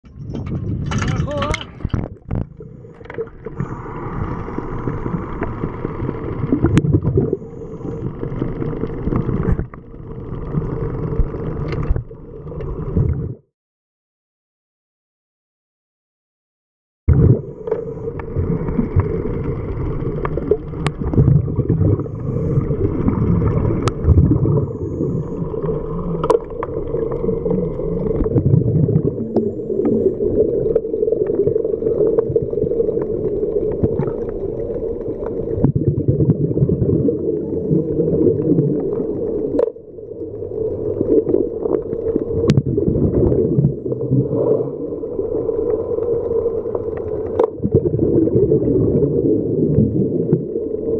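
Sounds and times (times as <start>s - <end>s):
underwater drone and rumble: 0.0s - 13.5s, 17.1s - 50.9s.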